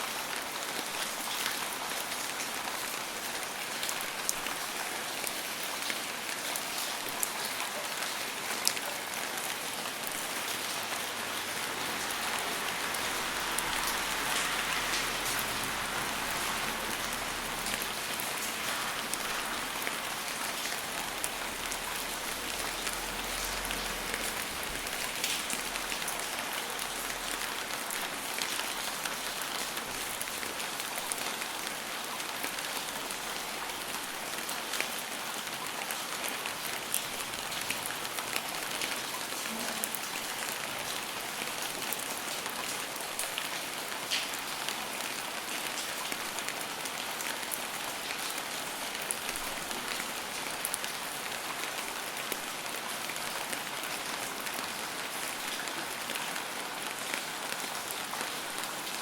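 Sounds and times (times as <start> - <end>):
rain on a hard surface: 0.0 - 59.0.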